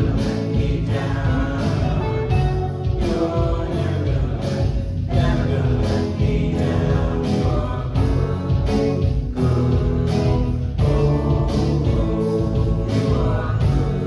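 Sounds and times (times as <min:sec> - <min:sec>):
worship band with group singing: 0:00.0 - 0:14.0.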